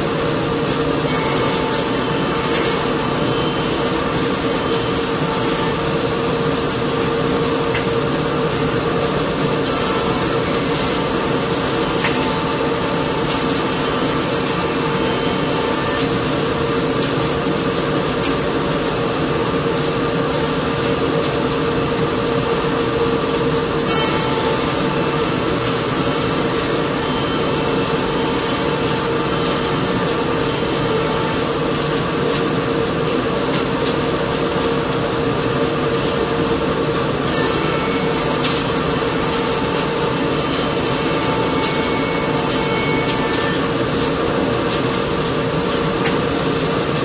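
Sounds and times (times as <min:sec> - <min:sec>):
woodworking machine droning: 0:00.0 - 0:17.8, 0:19.0 - 0:34.4, 0:35.3 - 0:47.0.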